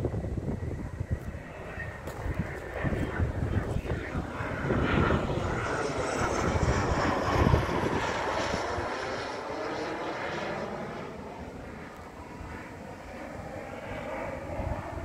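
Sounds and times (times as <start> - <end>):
aircraft engines roaring overhead: 0.0 - 15.0.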